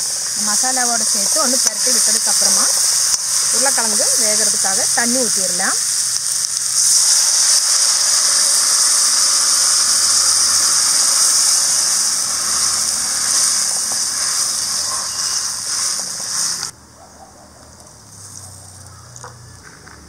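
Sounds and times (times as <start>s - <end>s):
water sizzling in hot pan: 0.0s - 16.7s.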